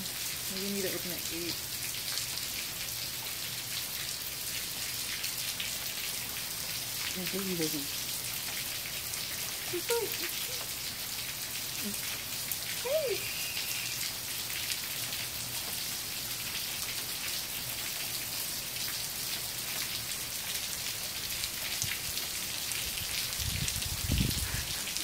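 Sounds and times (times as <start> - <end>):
rain on puddles: 0.0 - 25.0.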